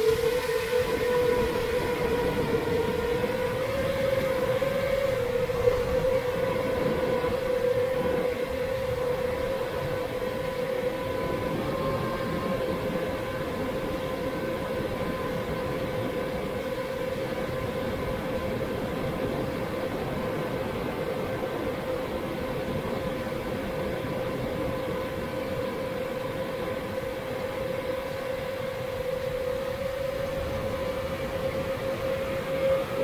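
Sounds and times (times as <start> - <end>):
drone motors whining: 0.0 - 33.0
rushing wind: 0.0 - 33.0.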